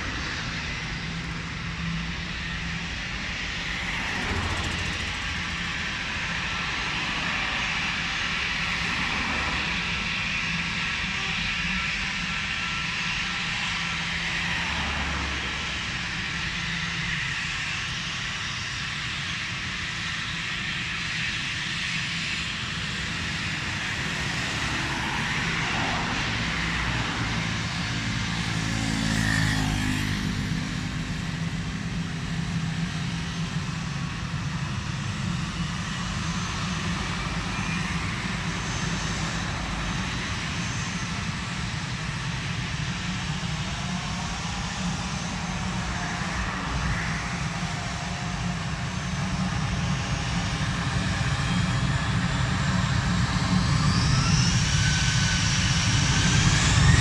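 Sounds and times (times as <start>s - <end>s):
aircraft engines passing by: 0.0s - 57.0s.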